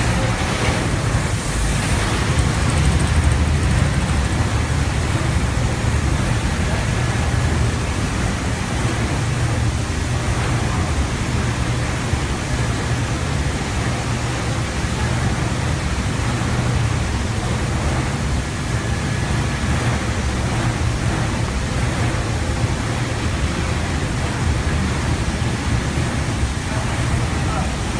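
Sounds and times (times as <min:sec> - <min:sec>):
carpet washing machine running: 0:00.0 - 0:27.9.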